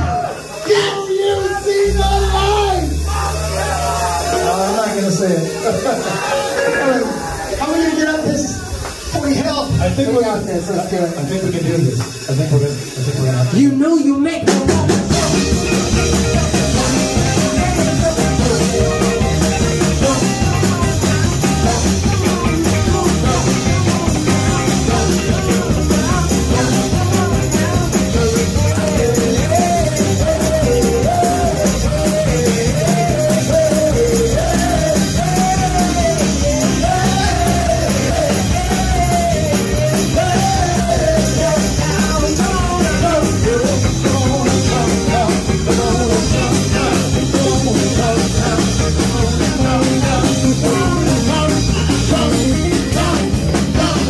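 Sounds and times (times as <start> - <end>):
rock band playing loudly: 0.0 - 54.0.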